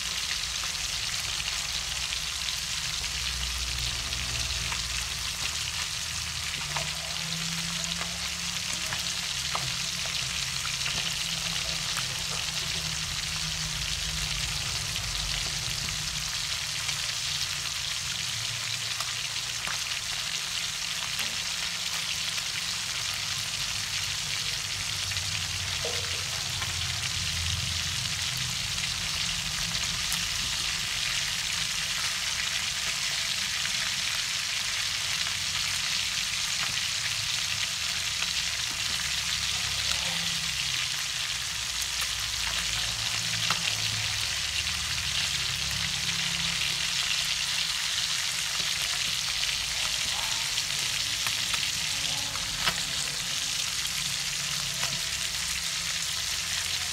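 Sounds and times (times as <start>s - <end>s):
fish frying in hot oil: 0.0s - 56.9s.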